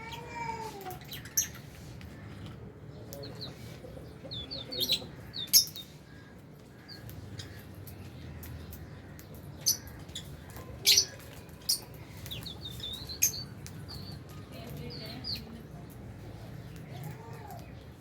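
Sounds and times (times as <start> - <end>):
lovebirds shrill chirps: 0.0 - 1.9, 3.2 - 18.0
lovebirds twittering: 0.9 - 18.0.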